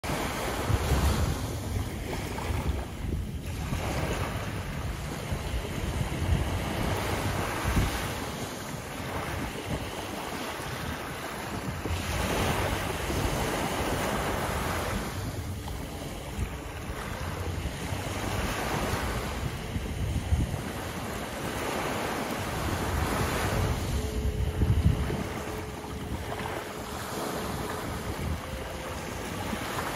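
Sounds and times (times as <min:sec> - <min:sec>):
waves breaking on a beach: 0:00.0 - 0:29.9
wind rumbling on the microphone: 0:00.0 - 0:29.9.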